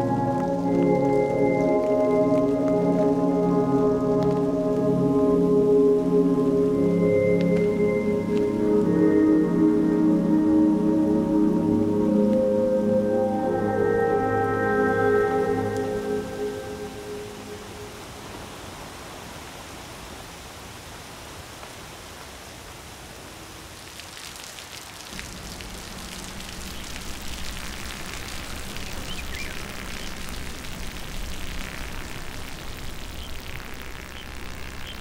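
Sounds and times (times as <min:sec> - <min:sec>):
rain hissing on rock: 0:00.0 - 0:09.0, 0:15.0 - 0:35.0
patter of raindrops: 0:00.0 - 0:35.0.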